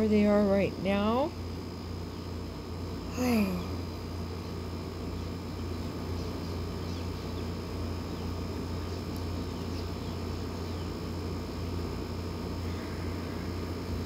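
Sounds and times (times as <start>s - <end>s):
small birds chirping: 0.0s - 11.5s
steady low hum: 0.0s - 14.0s.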